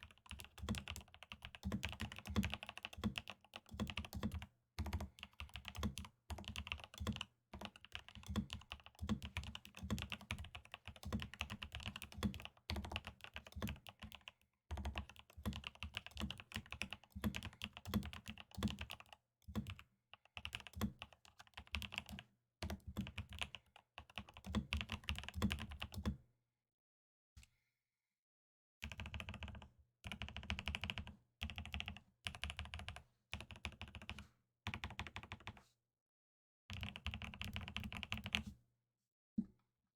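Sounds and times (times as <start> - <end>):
mechanical keyboard typing: 0.0 - 26.1, 28.8 - 34.1, 36.7 - 38.4.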